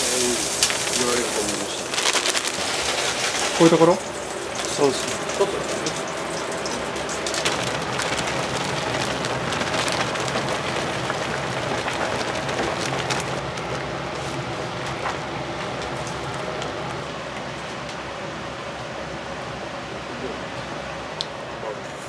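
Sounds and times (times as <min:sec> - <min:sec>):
food sizzling with crackles: 0:00.0 - 0:18.8
pot cooking with hiss: 0:00.0 - 0:22.0.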